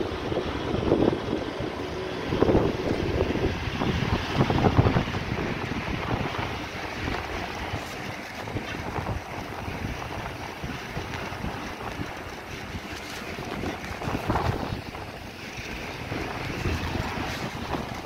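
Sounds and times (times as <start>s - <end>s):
vehicle road noise: 0.0s - 18.0s
wind buffeting microphone: 0.0s - 18.0s.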